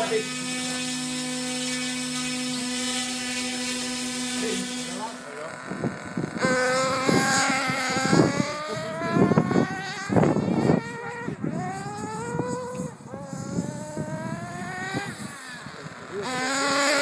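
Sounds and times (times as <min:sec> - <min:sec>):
rc buggy motor revving: 0:00.0 - 0:17.0.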